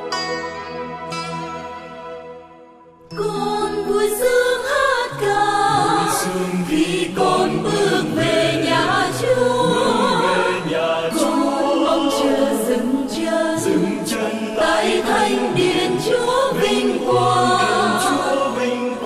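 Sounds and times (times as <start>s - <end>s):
hymn with instruments and choir: 3.1s - 19.0s.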